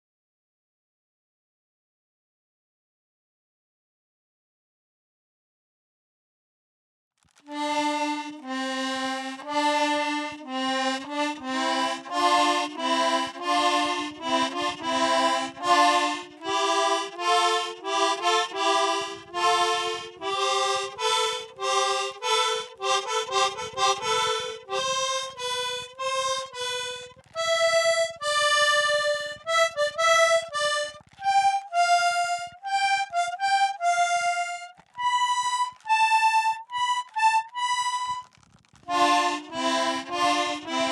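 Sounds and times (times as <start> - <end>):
accordion notes and chords: 7.4 - 40.9.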